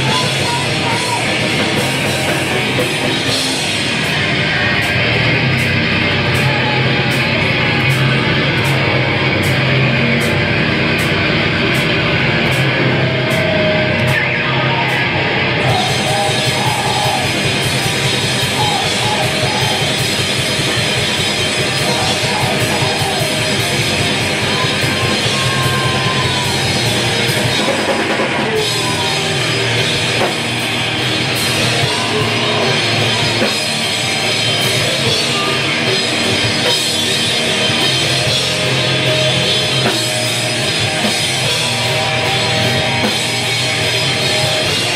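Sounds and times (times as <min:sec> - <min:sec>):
distorted electric guitars: 0:00.0 - 0:44.9
drum kit: 0:00.0 - 0:44.9.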